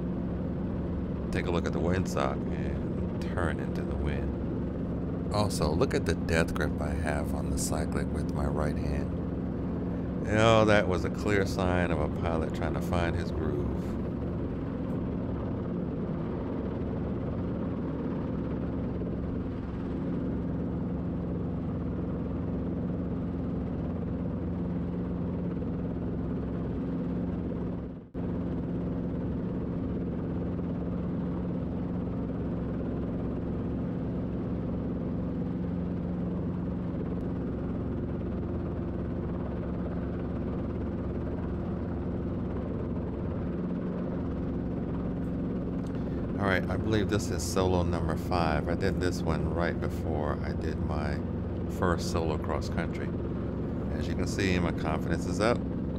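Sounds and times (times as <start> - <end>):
helicopter engine and rotors droning: 0.0 - 55.9.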